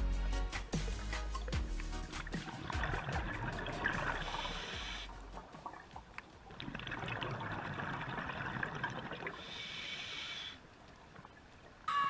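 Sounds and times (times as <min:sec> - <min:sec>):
underwater air bubbling: 0:01.0 - 0:11.5.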